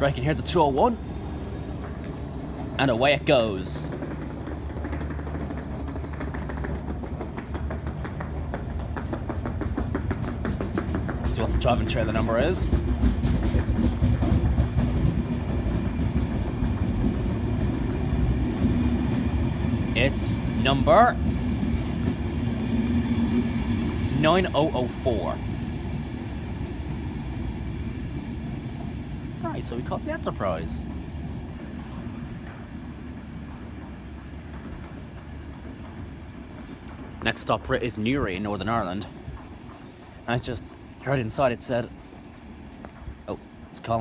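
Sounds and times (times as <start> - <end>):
train coaches rumbling on rails: 0.0 - 44.0
train wheel clicks: 0.3 - 44.0.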